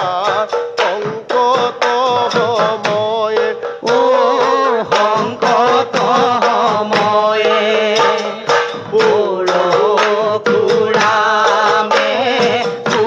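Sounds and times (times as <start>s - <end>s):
men singing a hymn: 0.0s - 13.0s
percussion beat: 0.0s - 13.0s.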